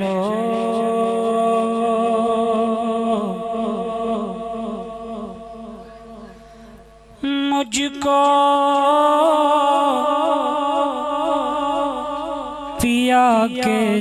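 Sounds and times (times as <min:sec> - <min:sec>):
man singing unaccompanied: 0:00.0 - 0:06.4, 0:07.1 - 0:14.0.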